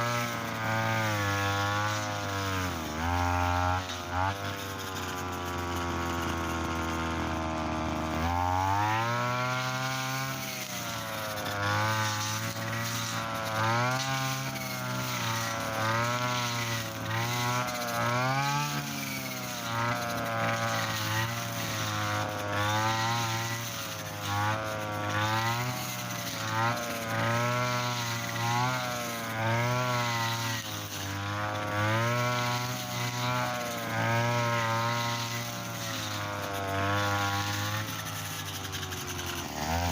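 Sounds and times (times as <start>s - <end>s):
brush cutter engine running hard: 0.0s - 39.9s.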